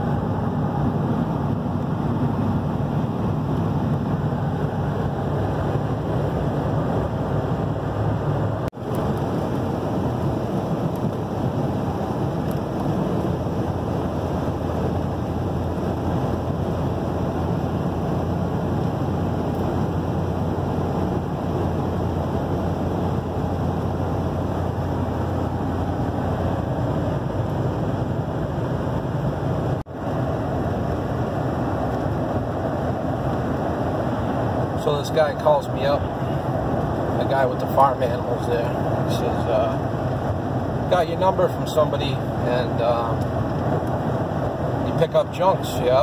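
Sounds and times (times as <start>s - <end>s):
road and wind noise inside vehicle: 0.0s - 46.0s.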